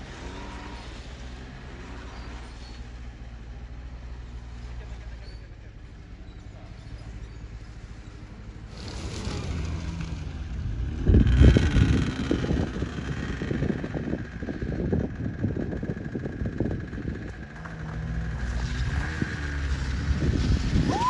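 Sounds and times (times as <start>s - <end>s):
snowmobile engine rumbling: 0.0s - 21.0s.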